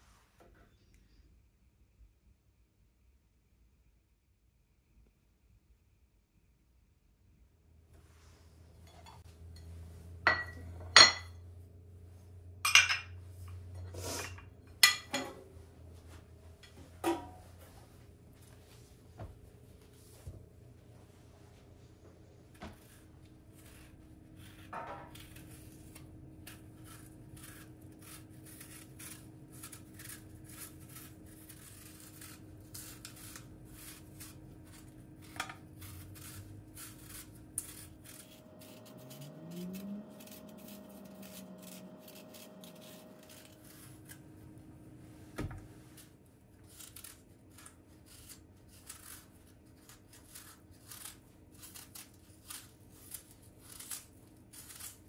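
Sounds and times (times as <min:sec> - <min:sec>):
low steady hum: 0:00.1 - 0:55.0.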